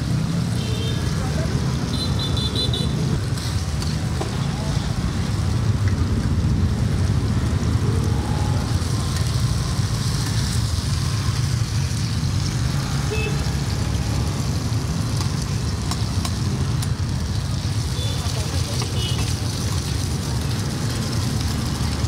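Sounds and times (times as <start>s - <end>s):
food sizzling in oil: 2.9s - 22.0s.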